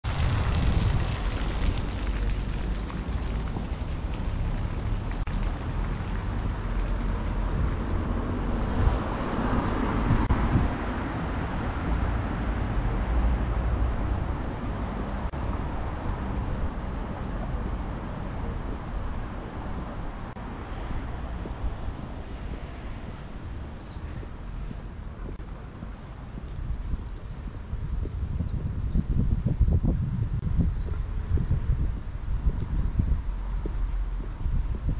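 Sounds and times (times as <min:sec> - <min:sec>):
street traffic: 0:00.0 - 0:34.9
wind buffeting microphone: 0:00.0 - 0:34.9.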